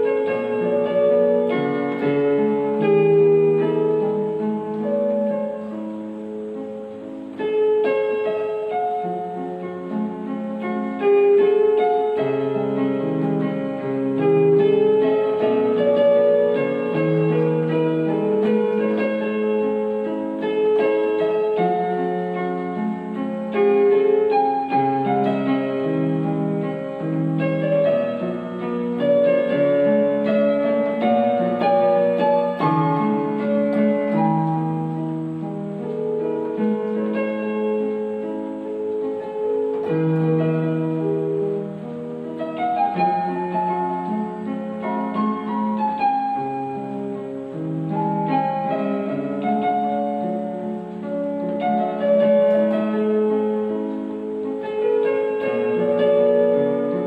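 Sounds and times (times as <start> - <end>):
piano melody on keyboard: 0.0 - 57.0.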